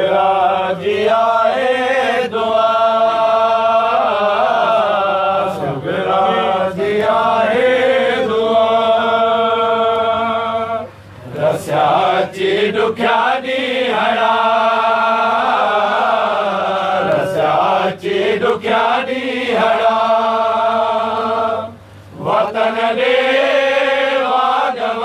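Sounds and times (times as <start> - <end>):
group chanting with held notes: 0.0 - 25.0.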